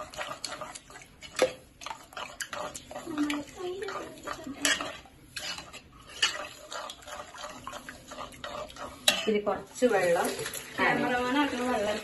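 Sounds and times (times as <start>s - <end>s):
spoon clinking and scraping pan: 0.0s - 12.0s.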